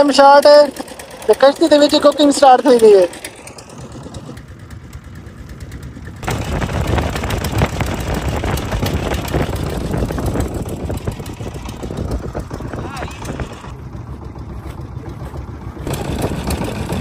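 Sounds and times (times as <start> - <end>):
boat engine knocking chug: 0.0 - 17.0.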